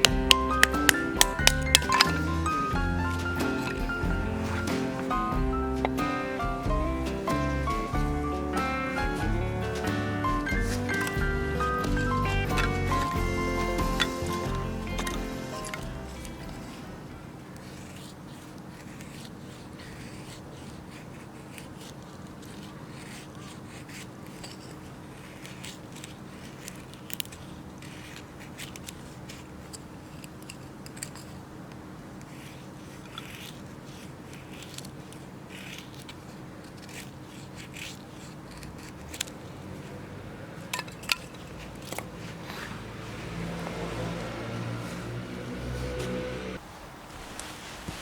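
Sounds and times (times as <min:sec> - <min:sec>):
small clicks and scrapes: 0:00.0 - 0:05.2, 0:08.4 - 0:46.3.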